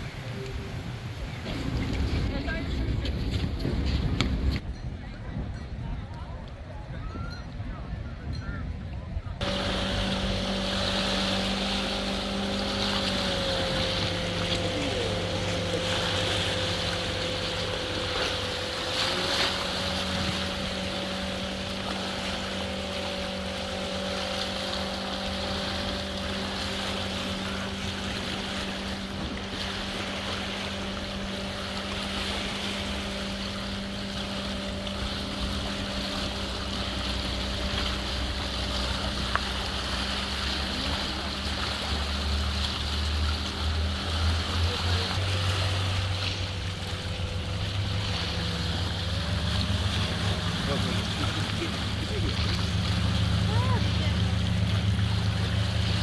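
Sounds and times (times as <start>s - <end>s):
constant rushing noise: 0.0s - 56.0s
motor running: 9.4s - 56.0s.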